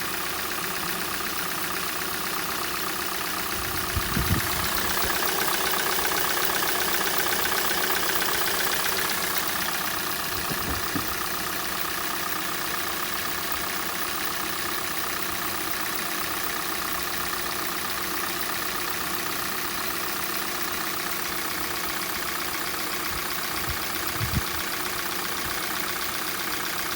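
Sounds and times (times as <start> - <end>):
engine idling with rapid knock: 0.0 - 26.9.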